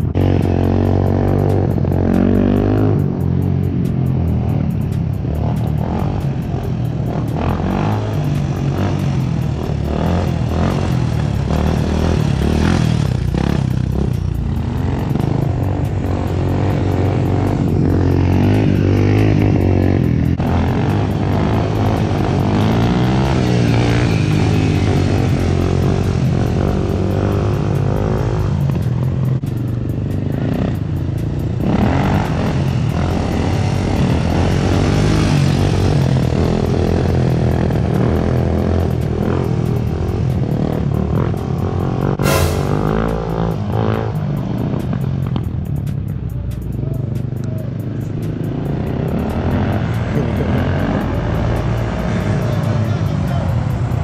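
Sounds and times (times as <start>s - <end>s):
motorcycle engine revving: 0.0s - 54.0s
music playing: 0.0s - 54.0s.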